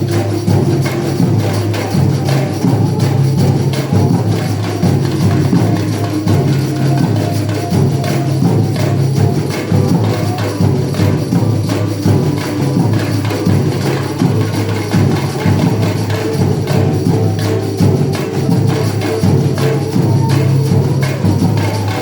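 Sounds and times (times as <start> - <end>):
percussion beat: 0.0 - 22.0.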